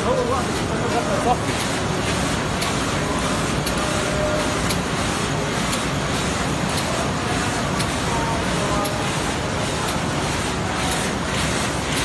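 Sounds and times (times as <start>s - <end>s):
machine mechanical whirr: 0.0s - 12.0s.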